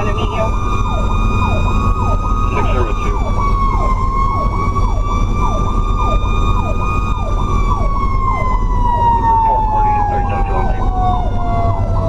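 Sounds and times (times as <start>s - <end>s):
electronic yelp siren: 0.0s - 12.0s
mechanical siren winding down: 0.0s - 12.0s
truck engine rumble: 0.0s - 12.0s.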